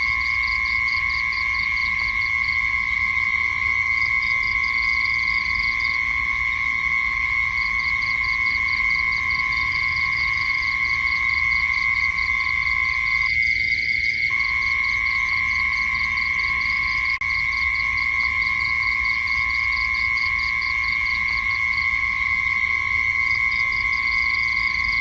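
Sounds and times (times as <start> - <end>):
insect high-pitched drone: 0.0 - 25.0
insect pulsing chirp: 0.0 - 25.0.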